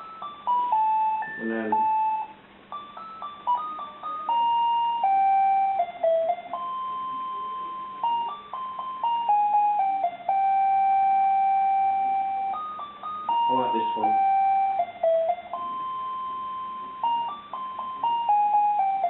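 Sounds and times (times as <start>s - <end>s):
alarm clock beeping melody: 0.0s - 19.0s.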